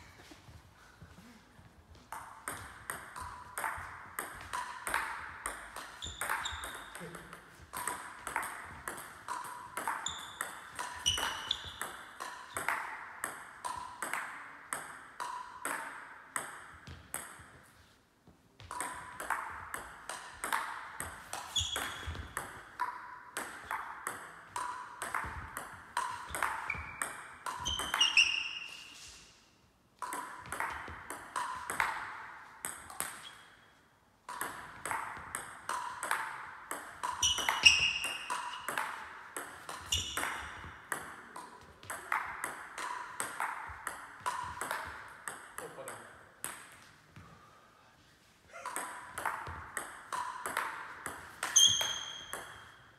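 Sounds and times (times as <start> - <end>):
ping pong ball clicking off bats: 1.9 - 17.7, 18.6 - 28.7, 30.0 - 47.0, 48.6 - 52.9
ping pong ball bouncing on table: 1.9 - 17.8, 18.6 - 28.7, 30.0 - 33.6, 34.2 - 47.3, 48.5 - 52.8.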